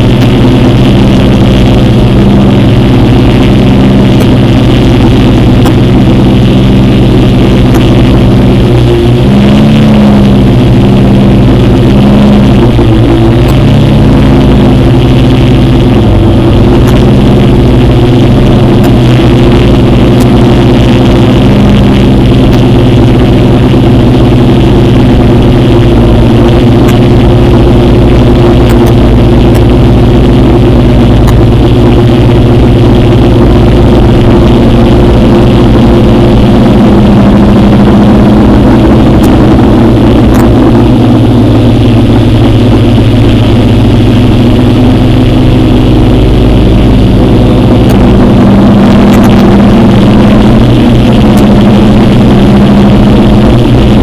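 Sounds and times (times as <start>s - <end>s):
drone motors and propellers: 0.0s - 54.0s.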